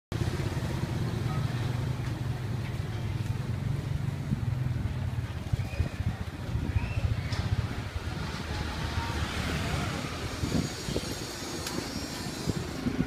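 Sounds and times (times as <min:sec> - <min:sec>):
street traffic rumble: 0:00.1 - 0:13.0.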